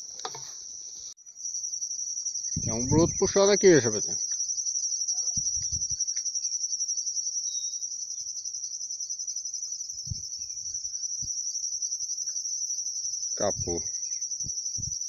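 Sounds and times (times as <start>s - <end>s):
high-pitched insect trilling: 0.0s - 15.0s.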